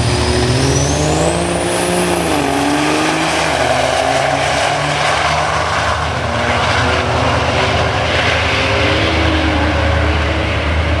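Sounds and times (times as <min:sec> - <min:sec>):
diesel engine loud low drone: 0:00.0 - 0:11.0.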